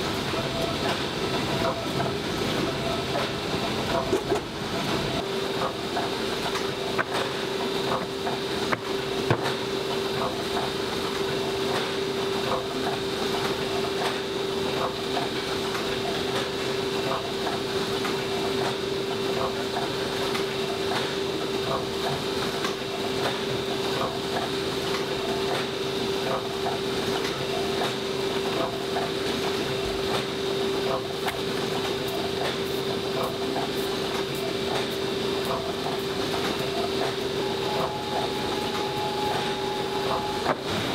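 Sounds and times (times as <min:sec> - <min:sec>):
paper-folding machine humming: 0:00.0 - 0:40.9.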